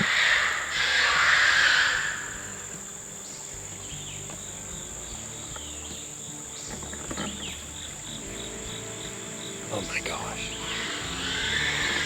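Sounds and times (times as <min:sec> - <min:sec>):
insects buzzing: 0:00.0 - 0:12.0
pulsing insect chirp: 0:00.0 - 0:12.0.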